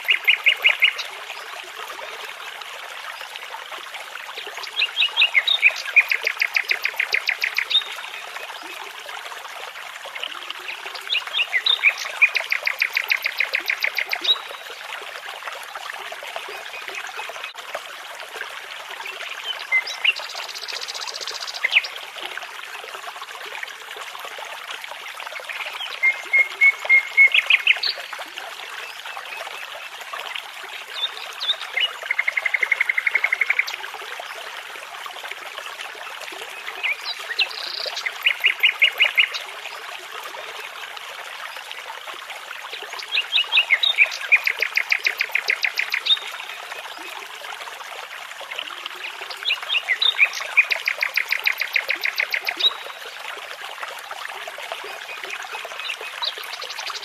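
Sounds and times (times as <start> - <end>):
babbling brook: 0.0 - 57.0.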